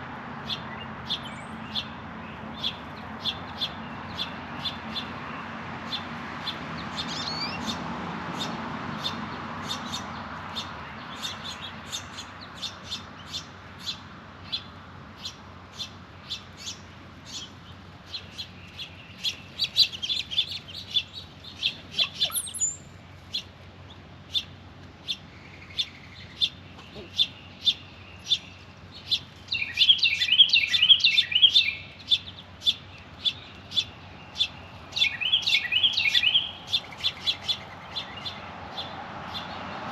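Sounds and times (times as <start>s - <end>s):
birds twittering: 0.4s - 39.9s
small birds chipping: 0.4s - 39.9s.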